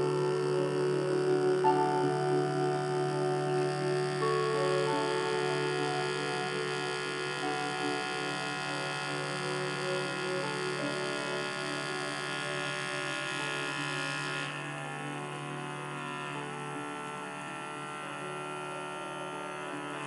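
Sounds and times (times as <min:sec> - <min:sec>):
slow held chords music: 0:00.0 - 0:20.0
steady low hum: 0:00.0 - 0:20.0.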